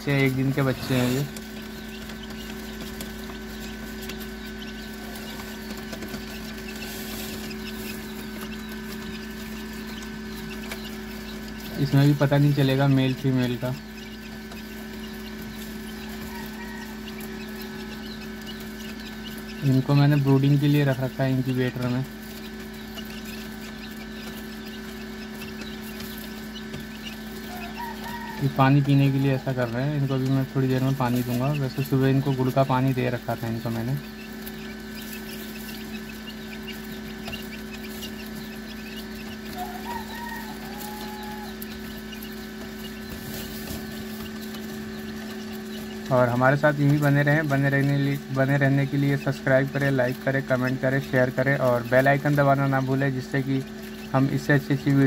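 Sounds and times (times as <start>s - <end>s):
quail chicks cheeping: 0.0s - 55.0s
steady electrical hum: 0.0s - 55.0s.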